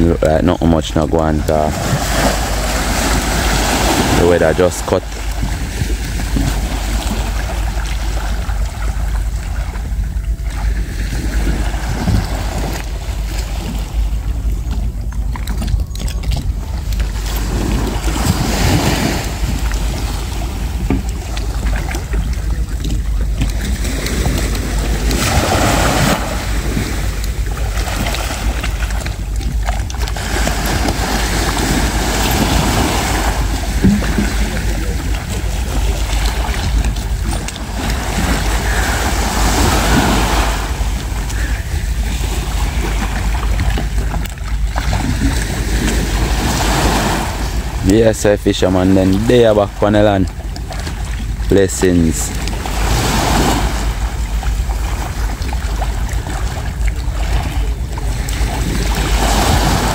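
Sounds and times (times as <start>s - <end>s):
wind buffeting microphone: 0.0s - 51.5s, 52.1s - 59.9s
small waves breaking on shore: 0.0s - 59.9s.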